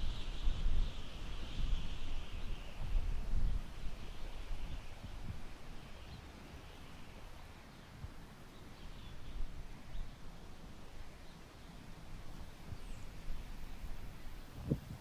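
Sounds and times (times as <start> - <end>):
wind gusting through grass: 0.0 - 15.0
wind rumble on microphone: 0.0 - 15.0.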